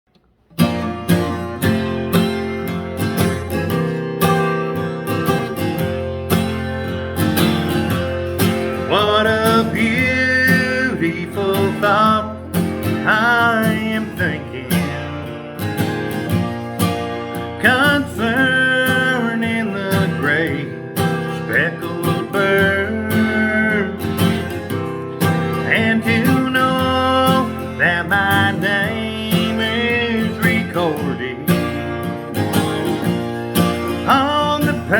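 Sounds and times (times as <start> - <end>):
acoustic guitar strumming: 0.1 - 34.9.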